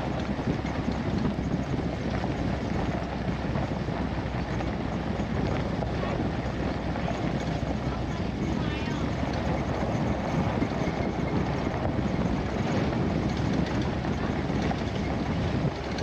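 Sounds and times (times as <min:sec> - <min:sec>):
truck engine: 0:00.0 - 0:16.0
wind buffeting microphone: 0:00.0 - 0:16.0.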